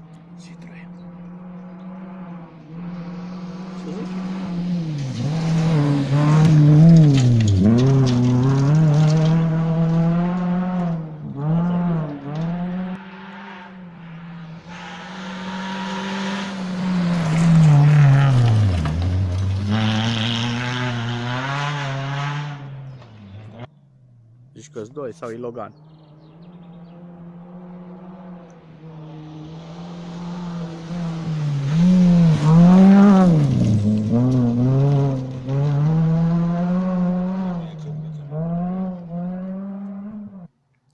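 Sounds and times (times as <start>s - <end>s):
rally car engines at full throttle: 0.0s - 40.6s.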